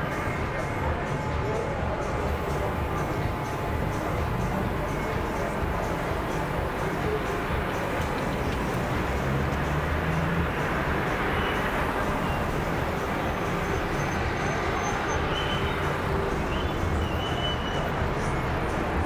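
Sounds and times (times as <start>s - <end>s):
street noise hum: 0.0s - 19.0s
cars driving past: 2.2s - 19.0s.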